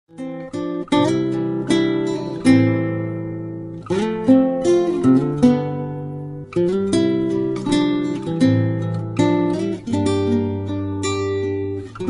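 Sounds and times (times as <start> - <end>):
acoustic guitar strumming chords: 0.1 - 12.0.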